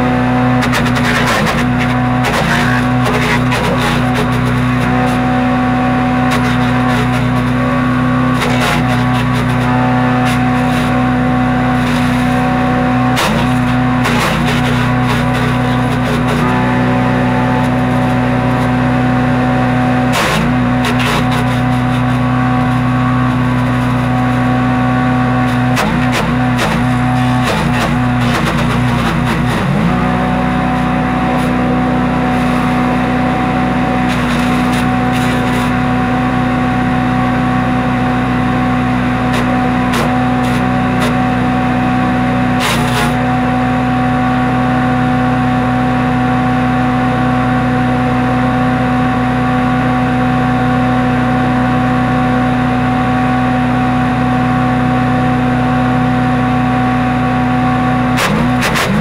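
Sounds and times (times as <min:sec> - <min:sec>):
wood chipper engine running: 0:00.0 - 0:59.0
wood cracking in chipper: 0:00.0 - 0:59.0.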